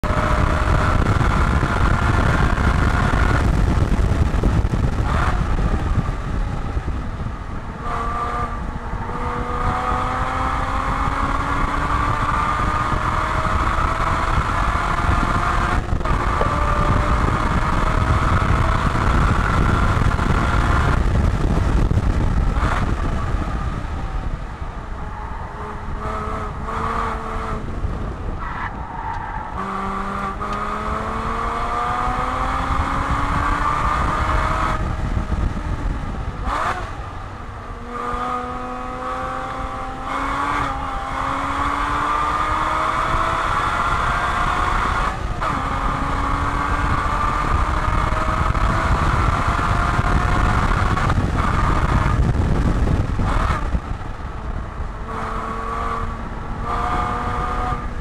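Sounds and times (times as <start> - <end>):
car engine pulling hard: 0.0 - 58.0
road and wind noise: 0.0 - 58.0.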